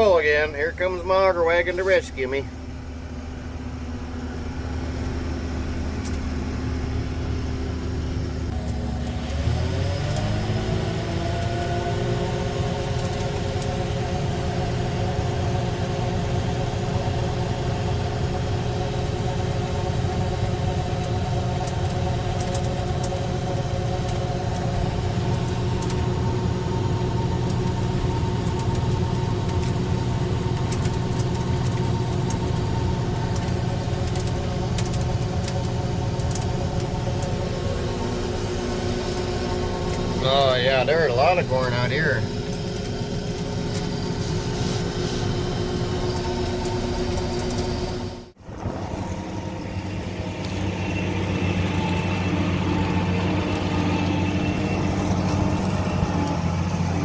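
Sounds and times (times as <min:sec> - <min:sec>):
combine engine humming: 0:00.0 - 0:57.0.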